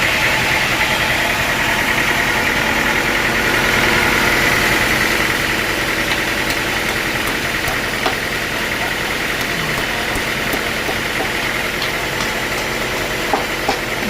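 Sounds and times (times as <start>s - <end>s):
high mechanical whine: 0.0s - 14.0s
sawmill machinery drone: 0.0s - 14.0s.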